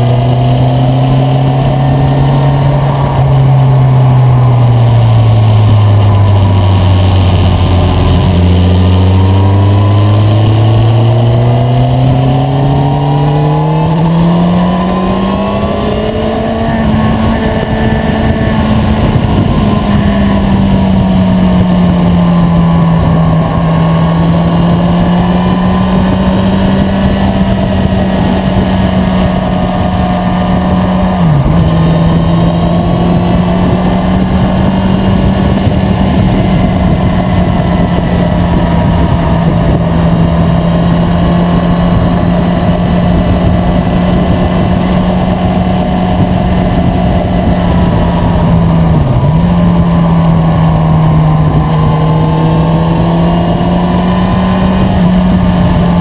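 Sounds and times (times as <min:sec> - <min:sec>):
motorcycle engine running: 0:00.0 - 0:56.0
wind rushing: 0:00.0 - 0:56.0.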